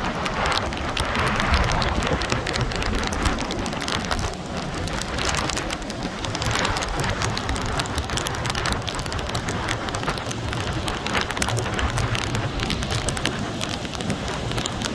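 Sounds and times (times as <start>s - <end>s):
heavy surf breaking: 0.0s - 14.9s
wind buffeting microphone: 0.0s - 14.9s.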